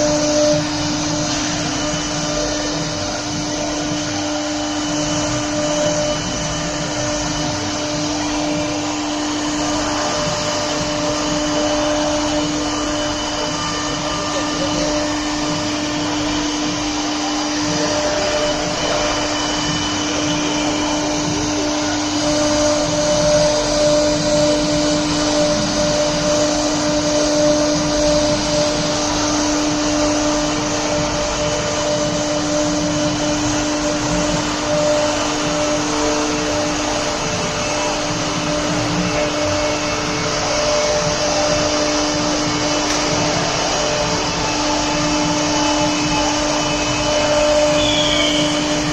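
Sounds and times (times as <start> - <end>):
router bit cutting wood: 0.0 - 48.9
router spindle whining: 0.0 - 48.9.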